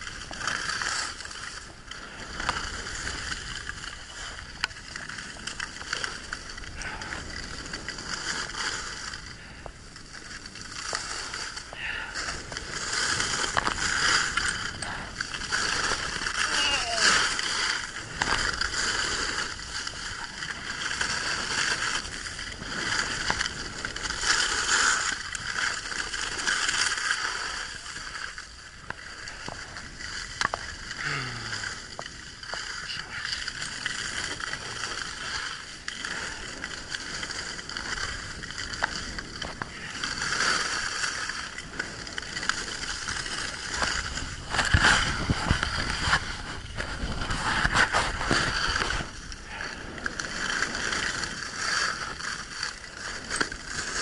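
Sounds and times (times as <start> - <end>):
skis scraping over snow: 0.0 - 54.0.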